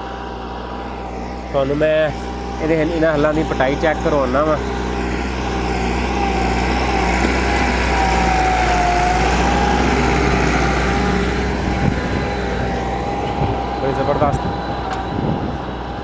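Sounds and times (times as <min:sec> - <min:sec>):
held whine: 0:00.0 - 0:16.0
tractor diesel engine under load: 0:00.0 - 0:16.0.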